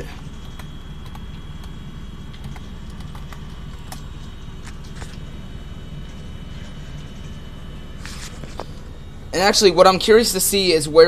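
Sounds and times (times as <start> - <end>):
computer low hum: 0.0 - 11.0
faint high whine: 0.0 - 11.0.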